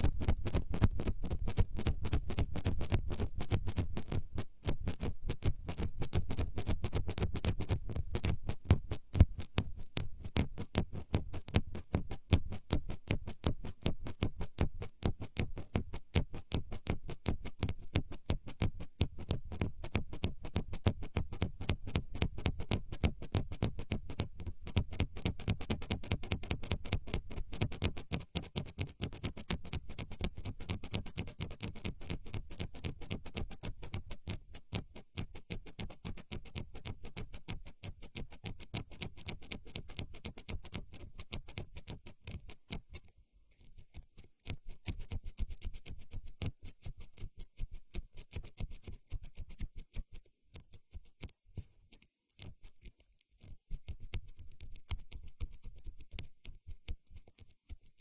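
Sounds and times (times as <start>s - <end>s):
taps and scratches on a microphone: 0.0s - 58.0s.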